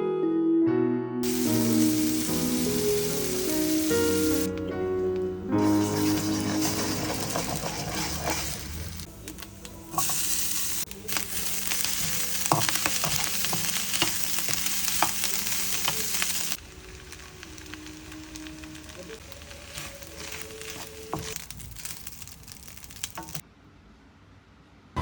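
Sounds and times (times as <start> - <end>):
food sizzling in a frying pan: 1.2 - 23.4
stirring clicks: 1.2 - 23.4.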